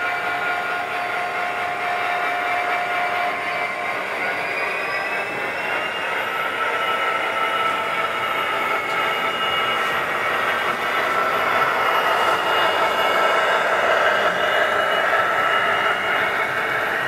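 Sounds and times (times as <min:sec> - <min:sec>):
model locomotive diesel engine sound: 0:00.0 - 0:17.0.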